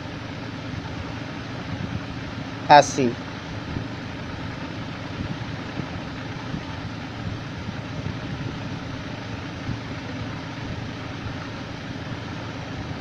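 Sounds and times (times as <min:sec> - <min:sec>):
steady low hum with hiss: 0:00.0 - 0:13.0.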